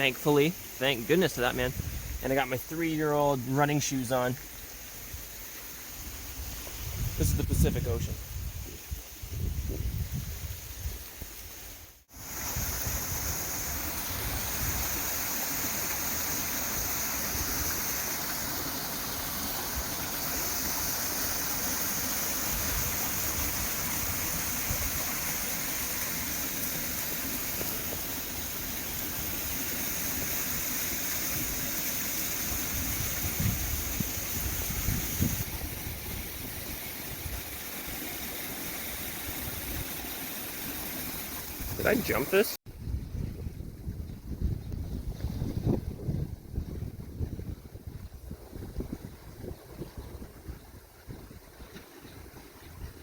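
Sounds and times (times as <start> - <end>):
rushing water: 0.0 - 42.6, 43.4 - 53.0.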